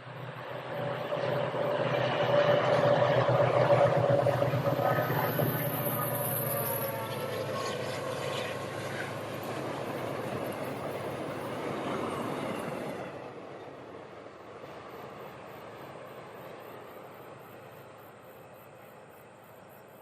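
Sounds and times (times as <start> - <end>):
train rumbling past on rails: 0.0 - 20.0.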